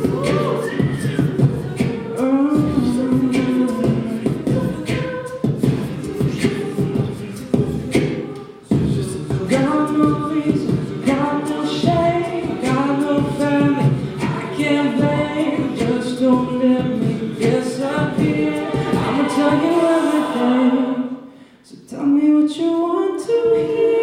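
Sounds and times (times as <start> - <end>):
vocal percussion beat: 0.0 - 24.0
voices singing in harmony: 0.0 - 24.0.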